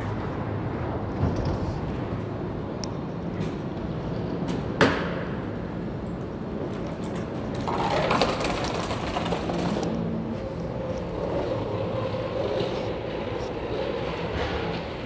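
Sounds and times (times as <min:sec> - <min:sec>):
mechanical rumble and hum: 0:00.0 - 0:15.0.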